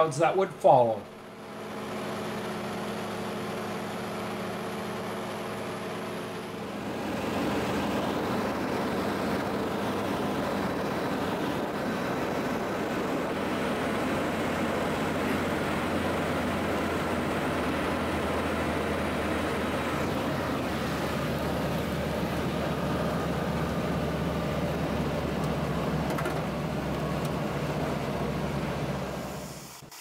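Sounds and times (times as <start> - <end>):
propeller plane engine drone: 0.0 - 30.0.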